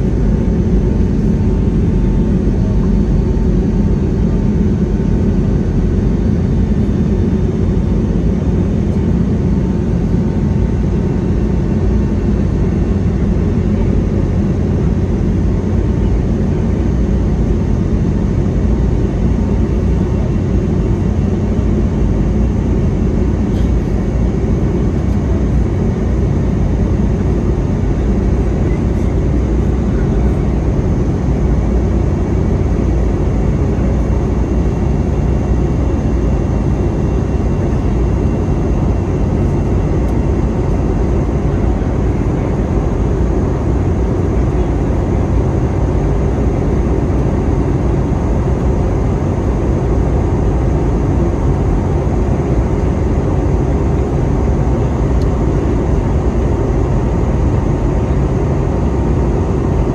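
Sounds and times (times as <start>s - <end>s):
faint steady whine: 0.0s - 59.9s
jet engines at climb power: 0.0s - 59.9s.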